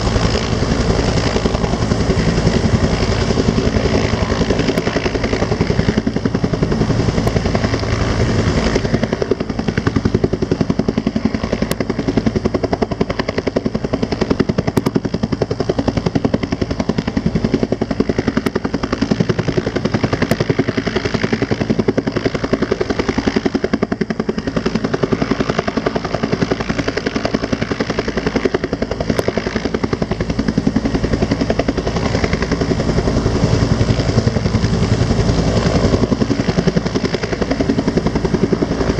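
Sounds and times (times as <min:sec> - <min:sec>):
helicopter rotor chopping: 0:00.0 - 0:38.9.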